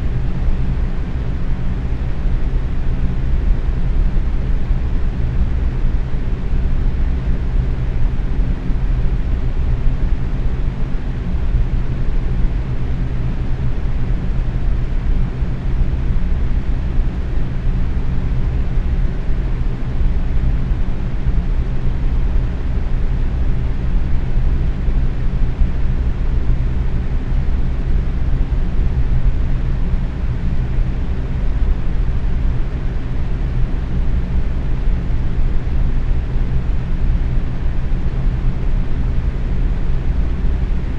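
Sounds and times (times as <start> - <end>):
box fan rushing air: 0.0 - 40.9
faint fan motor hum: 0.0 - 40.9.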